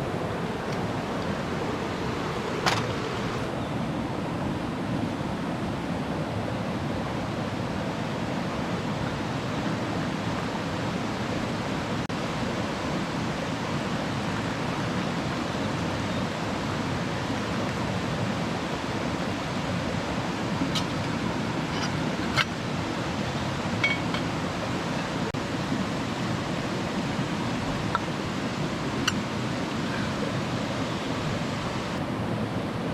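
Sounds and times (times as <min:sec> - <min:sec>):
stream rushing over rocks: 0:00.0 - 0:32.9.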